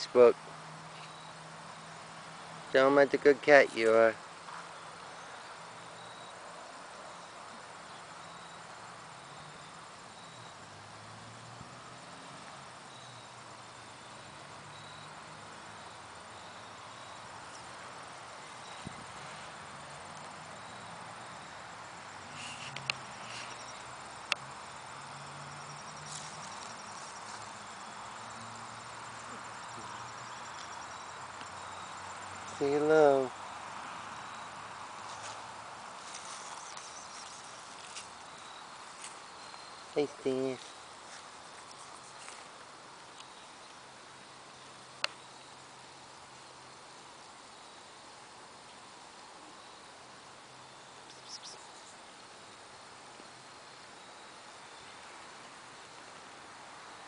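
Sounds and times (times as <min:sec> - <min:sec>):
high insect chirps: 0:00.0 - 0:57.0
steady outdoor hiss: 0:00.0 - 0:57.0.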